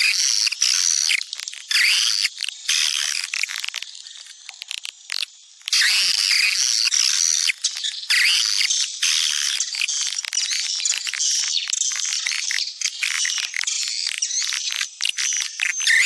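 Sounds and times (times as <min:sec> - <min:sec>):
faint clicks: 0:00.0 - 0:16.0
swiftlet twittering chatter: 0:00.0 - 0:16.0.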